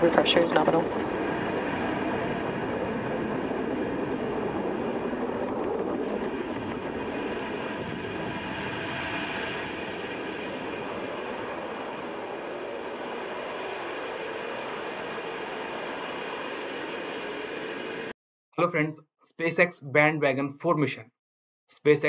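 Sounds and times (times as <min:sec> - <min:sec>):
rocket engines roaring: 0:00.0 - 0:18.1.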